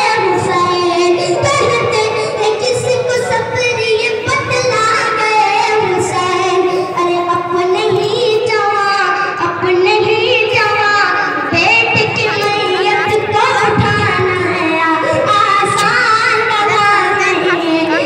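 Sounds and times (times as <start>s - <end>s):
boy singing through loudspeaker: 0.0s - 18.0s.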